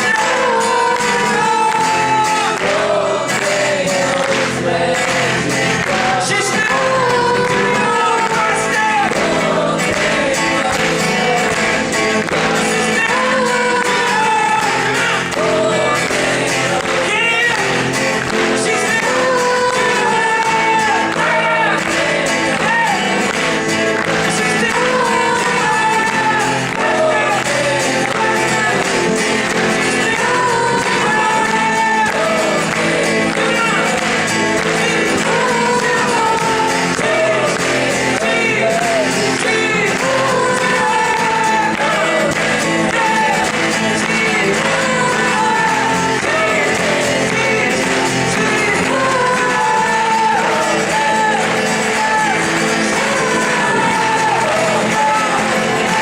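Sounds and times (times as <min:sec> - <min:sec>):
guitar accompaniment: 0:00.0 - 0:56.0
voices singing slow melody: 0:00.0 - 0:56.0.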